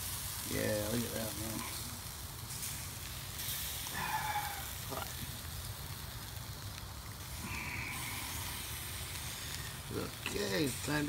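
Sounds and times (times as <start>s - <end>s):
shrimp sizzling on grill: 0.0s - 11.0s.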